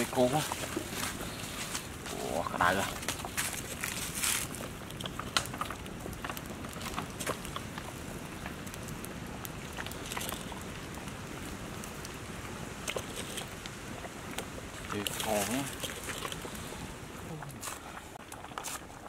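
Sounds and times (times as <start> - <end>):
crackling wood fire: 0.0 - 19.0
soup simmering in a pot: 0.0 - 19.0.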